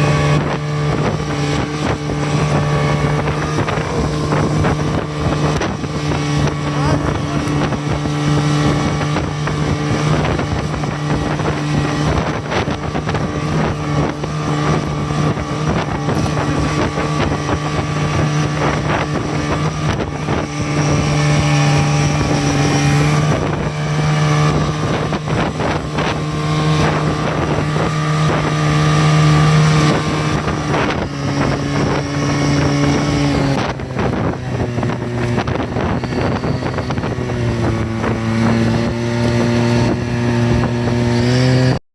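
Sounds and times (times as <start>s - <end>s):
snowmobile engine running: 0.0s - 41.8s
wind on microphone: 0.0s - 41.8s.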